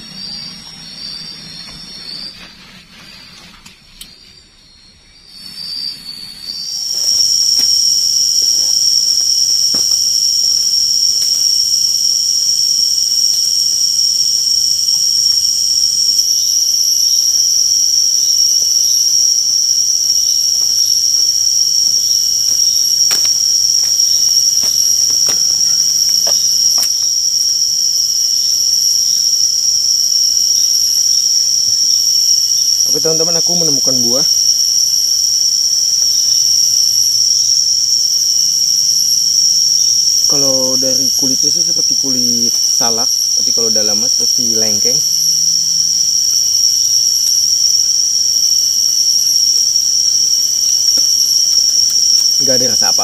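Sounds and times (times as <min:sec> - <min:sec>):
high-pitched insect drone: 0:00.0 - 0:53.0.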